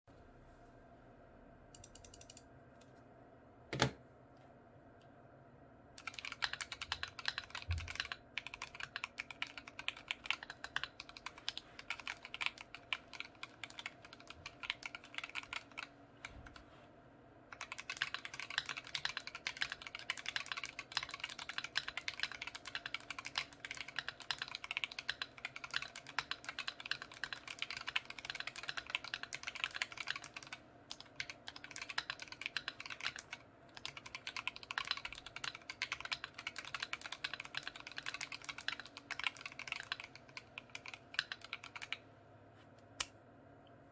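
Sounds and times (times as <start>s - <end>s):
mechanical keyboard typing: 1.8s - 2.4s, 6.0s - 16.6s, 17.5s - 42.0s.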